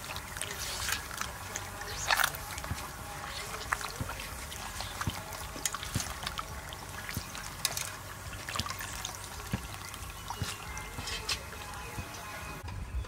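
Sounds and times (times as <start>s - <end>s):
water splashing in a metal bowl: 0.0s - 12.6s.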